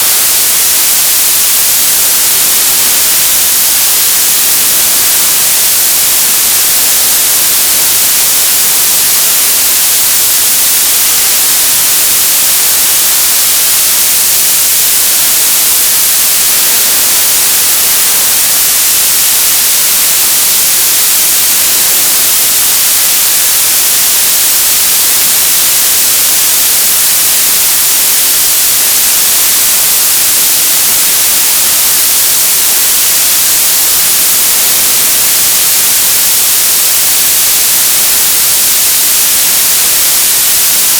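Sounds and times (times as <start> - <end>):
television static hiss: 0.0 - 40.9.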